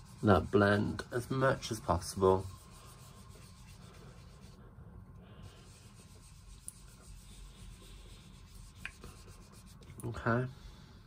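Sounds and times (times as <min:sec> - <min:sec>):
sponge rubbing on card: 0:00.0 - 0:04.7, 0:05.4 - 0:10.6.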